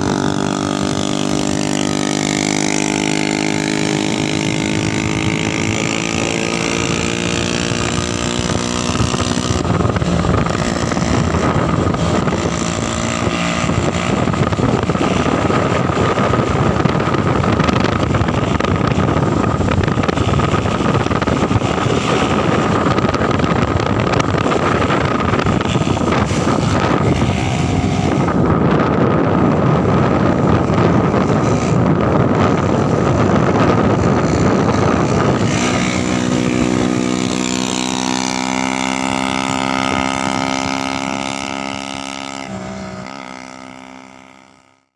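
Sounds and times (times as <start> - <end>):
motorbike engine hum: 0.0 - 44.9
road noise: 0.0 - 44.9
wind rushing on microphone: 0.0 - 44.9.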